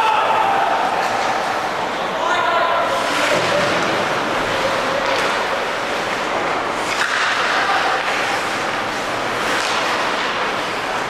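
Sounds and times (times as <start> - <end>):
arena crowd noise: 0.0 - 11.0.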